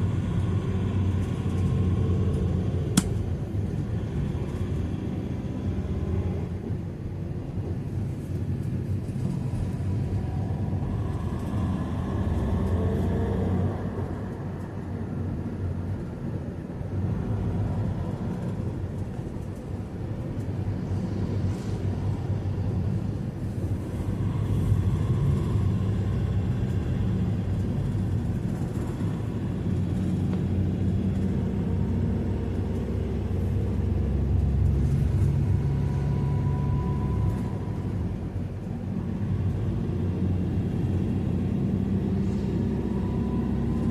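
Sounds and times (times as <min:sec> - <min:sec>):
vehicle engine and road noise: 0:00.0 - 0:43.9.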